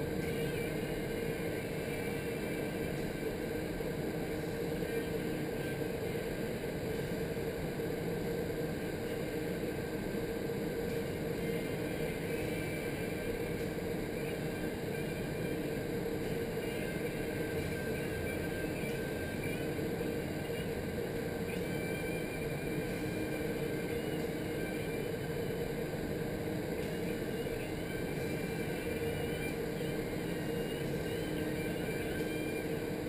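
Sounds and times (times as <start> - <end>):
constant hum: 0.0 - 33.0.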